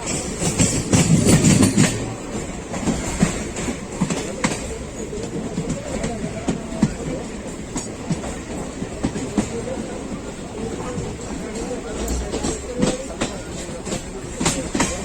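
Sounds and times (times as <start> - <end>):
train rumble: 0.0 - 15.0
train rushing: 0.0 - 15.0
wheels clicking over rail joints: 0.0 - 15.0.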